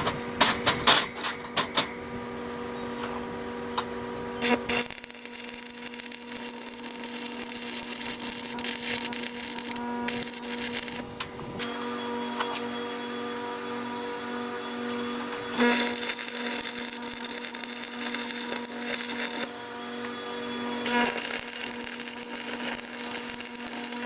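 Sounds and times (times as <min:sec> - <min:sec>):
high grinding hiss: 0:03.9 - 0:13.5, 0:14.3 - 0:24.0.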